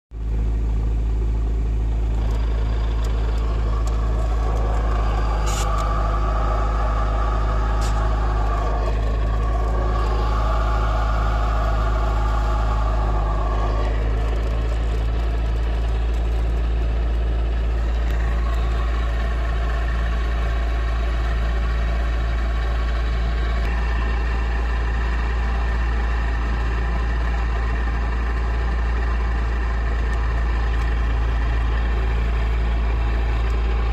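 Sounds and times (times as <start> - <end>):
car engine idling: 0.1 - 33.9
clutch bearing whine: 0.2 - 33.9.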